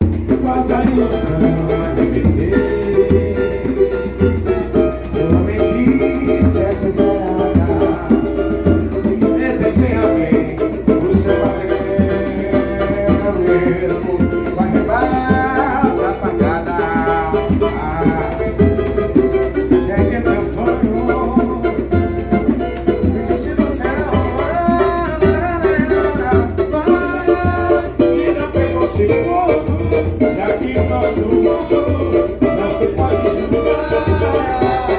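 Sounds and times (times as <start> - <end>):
people singing: 0.0 - 34.9
samba percussion: 0.0 - 34.9.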